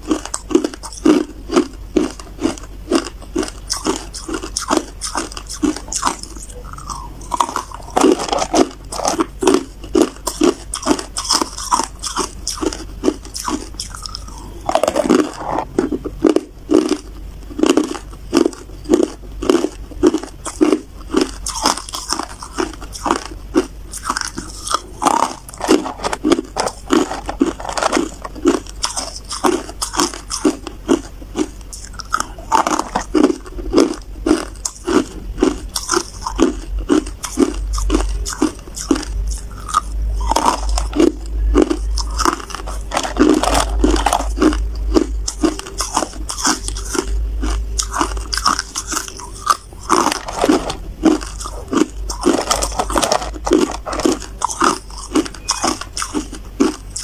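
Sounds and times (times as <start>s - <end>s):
ice cubes crunching in mouth: 0.0s - 57.0s.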